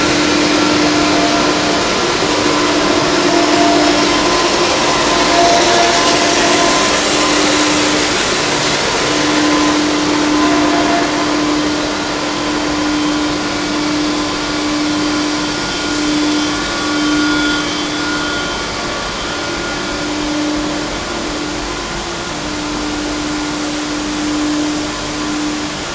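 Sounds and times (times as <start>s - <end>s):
wavering hum: 0.0s - 25.9s
whirring motors: 0.0s - 25.9s.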